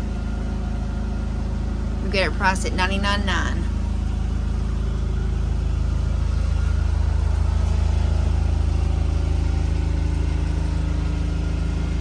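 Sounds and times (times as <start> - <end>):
generator droning: 0.0 - 12.0.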